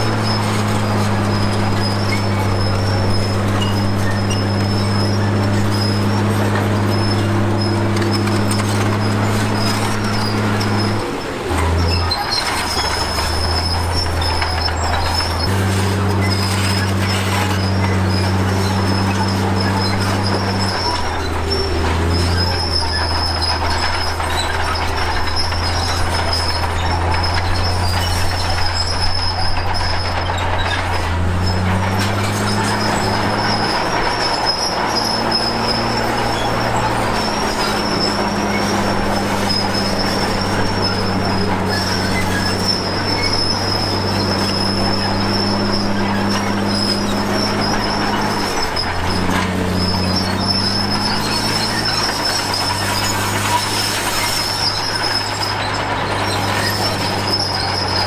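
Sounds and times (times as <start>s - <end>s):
diesel engine under load: 0.0s - 58.0s
tracks squealing: 0.0s - 58.0s.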